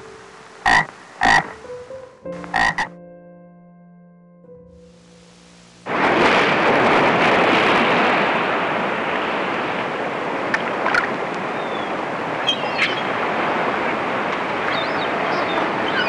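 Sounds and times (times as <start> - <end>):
water rushing: 0.0 - 2.9, 5.1 - 16.0.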